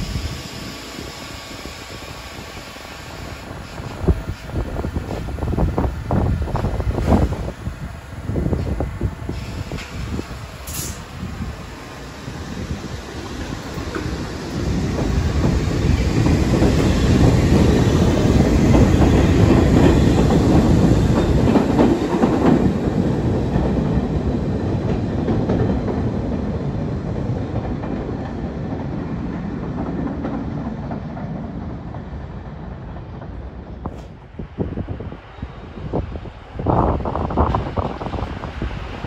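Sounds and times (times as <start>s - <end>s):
subway train rumble: 0.0s - 39.0s.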